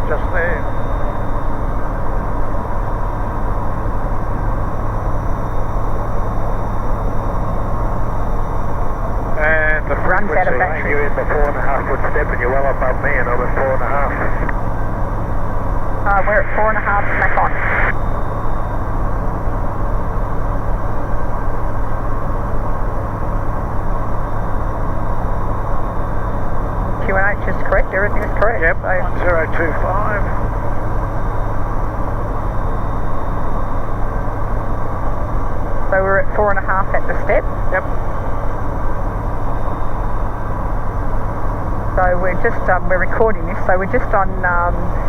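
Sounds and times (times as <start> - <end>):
light aircraft engine drone: 0.0 - 45.0.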